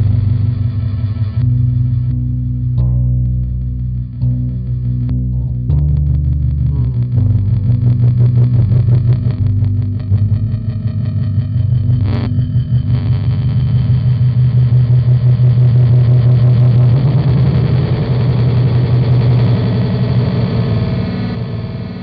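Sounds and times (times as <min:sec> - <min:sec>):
distorted electric bass with delay: 0:00.0 - 0:22.0.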